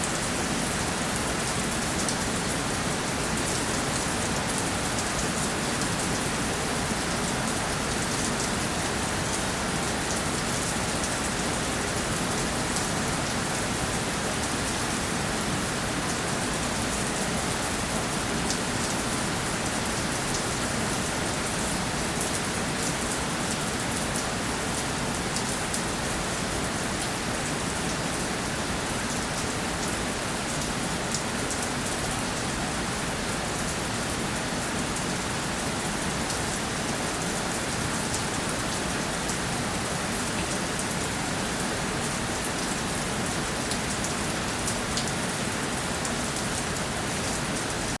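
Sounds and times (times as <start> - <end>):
steady rainfall: 0.0 - 48.0.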